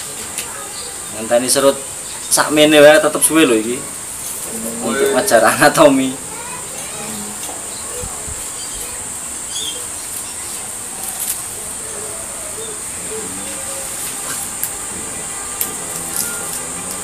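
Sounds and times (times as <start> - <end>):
faint background voices: 0.0 - 17.0
high-pitched hiss: 0.0 - 17.0.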